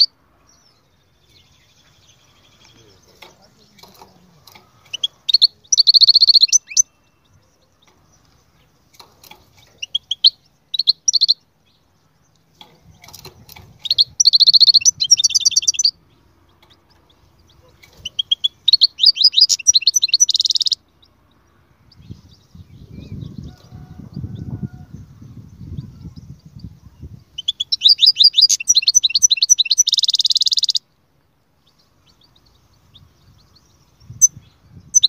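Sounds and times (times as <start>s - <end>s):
bird twittering: 0.0s - 23.8s, 25.4s - 30.9s, 31.7s - 35.0s.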